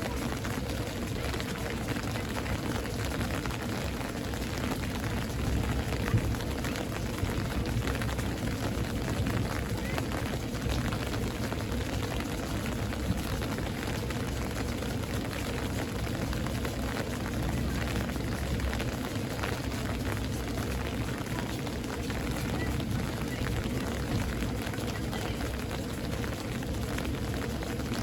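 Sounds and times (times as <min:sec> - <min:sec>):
low steady rumble: 0:00.0 - 0:28.0
rain patter: 0:00.0 - 0:28.0.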